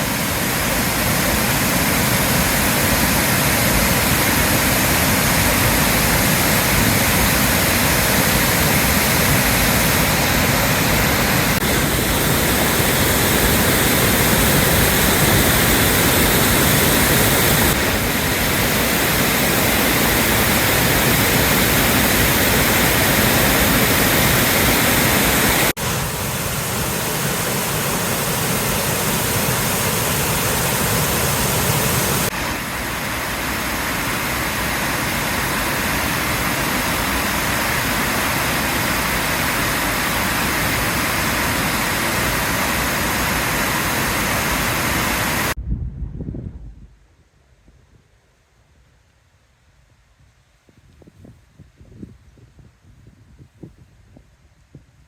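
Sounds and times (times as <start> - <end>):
floodwater rushing and churning: 0.0 - 45.6.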